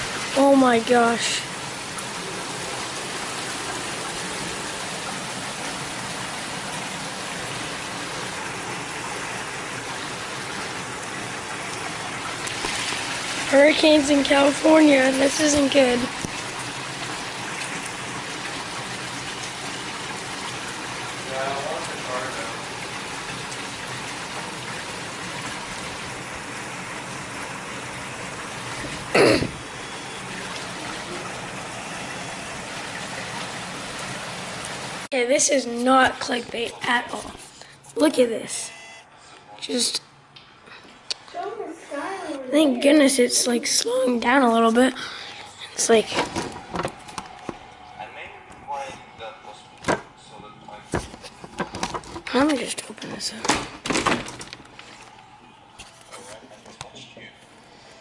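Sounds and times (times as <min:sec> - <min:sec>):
heavy rain pouring: 0:00.0 - 0:38.5, 0:41.4 - 0:58.0.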